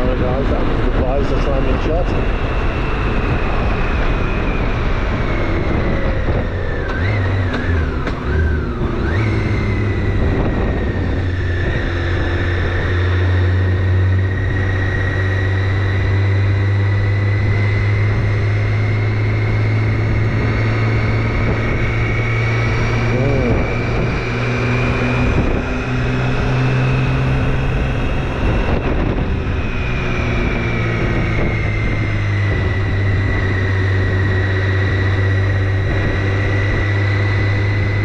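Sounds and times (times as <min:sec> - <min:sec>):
motorcycle engine running: 0:00.0 - 0:38.0
road noise: 0:00.0 - 0:38.0
wind noise: 0:00.0 - 0:38.0.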